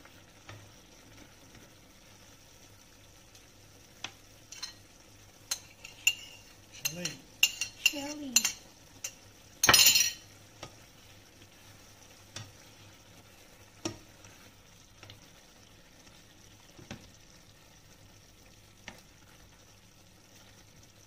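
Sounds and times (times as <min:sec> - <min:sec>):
sauce sizzling faintly: 0:00.0 - 0:21.0
spatula stirring food in frying pan: 0:00.0 - 0:21.0.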